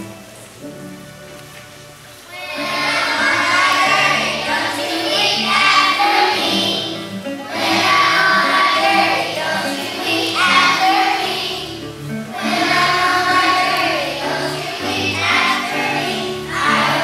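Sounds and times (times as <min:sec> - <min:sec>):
soft instrumental accompaniment: 0:00.0 - 0:17.0
children singing: 0:02.3 - 0:17.0.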